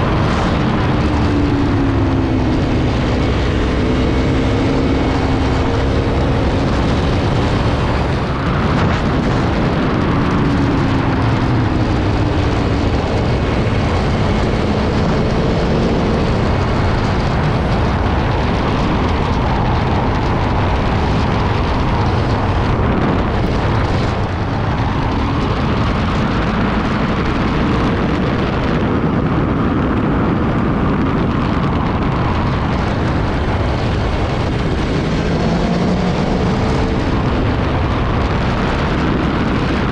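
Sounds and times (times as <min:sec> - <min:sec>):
loud rush of noise: 0:00.0 - 0:39.9
motorcycle engine running: 0:00.0 - 0:39.9.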